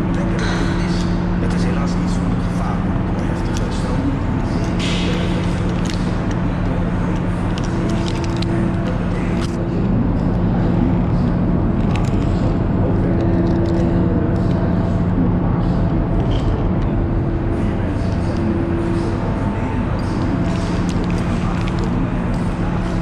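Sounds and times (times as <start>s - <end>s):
machinery drone with low hum: 0.0s - 23.0s
faint clicks and rattles: 3.2s - 15.0s, 15.7s - 23.0s.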